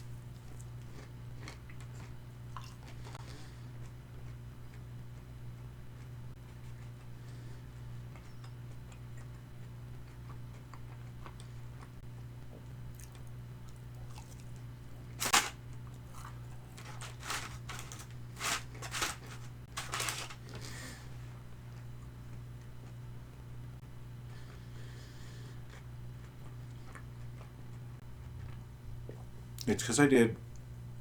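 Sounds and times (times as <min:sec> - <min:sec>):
crunching and chewing fried chicken: 0:00.0 - 0:29.7
steady low hum: 0:00.0 - 0:31.0.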